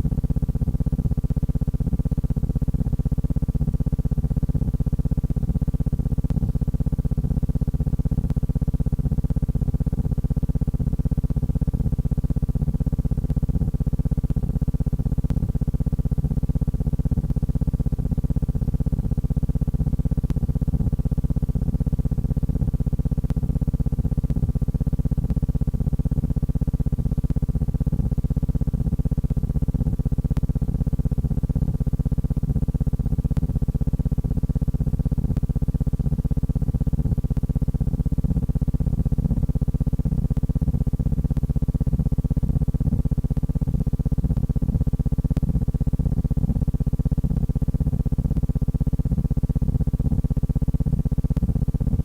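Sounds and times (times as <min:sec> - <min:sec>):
low buzzing hum: 0:00.0 - 0:52.0.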